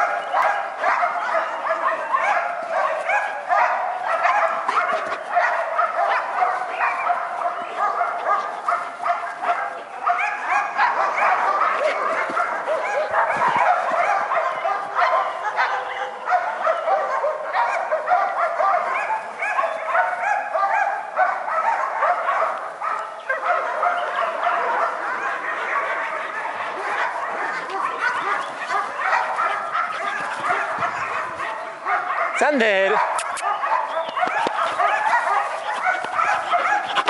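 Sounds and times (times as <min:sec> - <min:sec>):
many dogs barking: 0:00.0 - 0:37.0.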